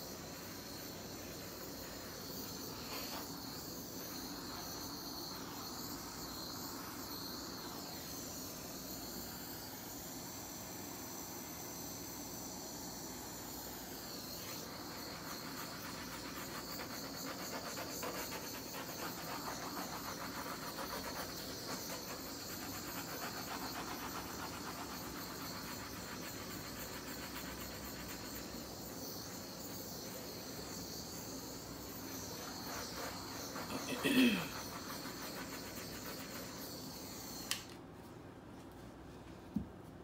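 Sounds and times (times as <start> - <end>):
gas torch flame hissing: 0.0 - 37.7.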